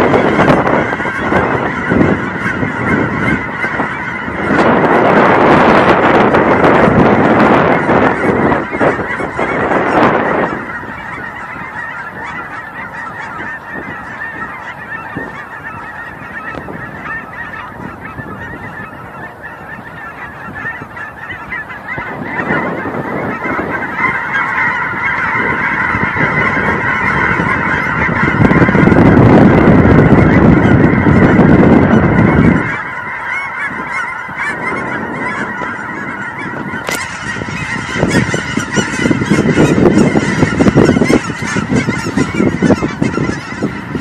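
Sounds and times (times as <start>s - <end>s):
geese honking: 0.0s - 44.0s.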